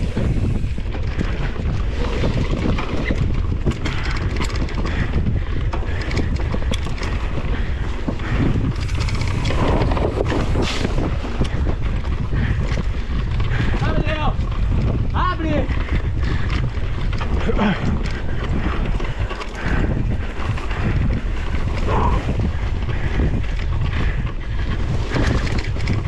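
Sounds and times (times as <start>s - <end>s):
bike clicks and rattles: 0.0s - 26.0s
wind buffeting microphone: 0.0s - 26.0s.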